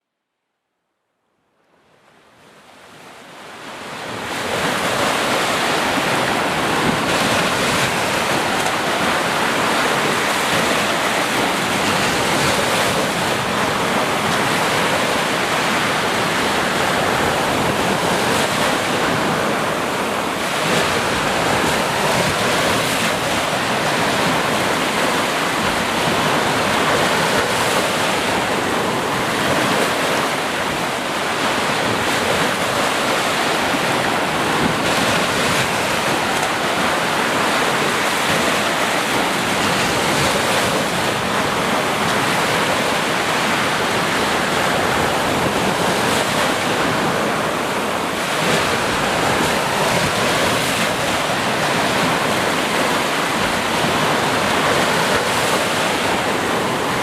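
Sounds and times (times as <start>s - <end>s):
waves washing on shore: 2.0s - 57.0s.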